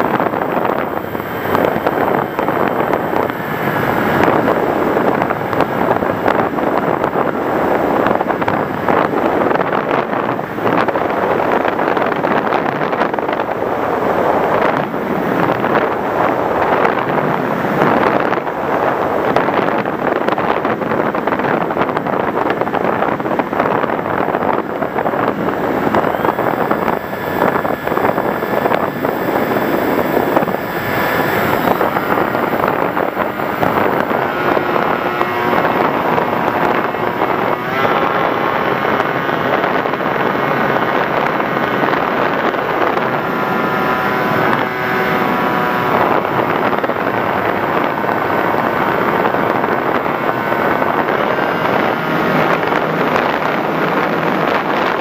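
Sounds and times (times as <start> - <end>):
faint motor whine: 0.0 - 55.0
wind rushing over microphone: 0.0 - 55.0.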